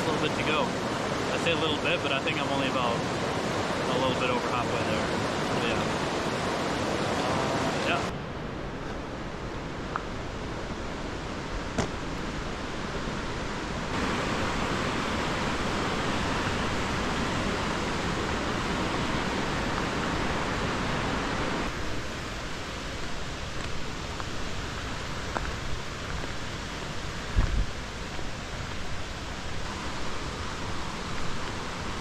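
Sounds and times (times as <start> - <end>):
mountain river rushing: 0.0 - 32.0.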